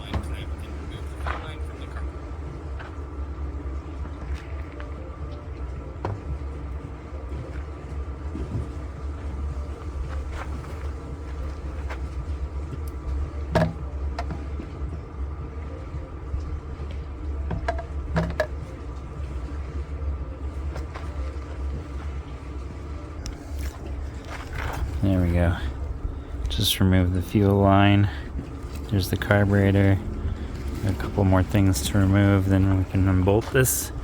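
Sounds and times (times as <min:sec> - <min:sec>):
low rumble of wind: 0:00.0 - 0:34.0.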